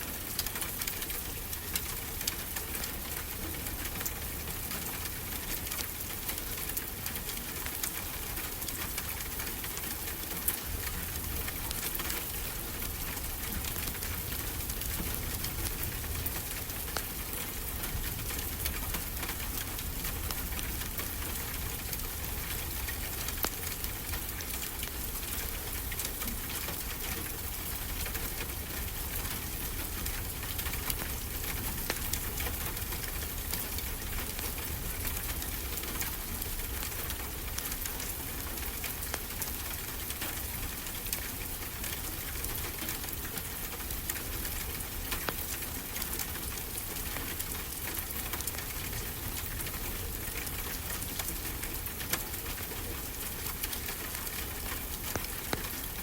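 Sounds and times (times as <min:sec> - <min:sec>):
wood fire crackling and popping: 0:05.0 - 0:56.0.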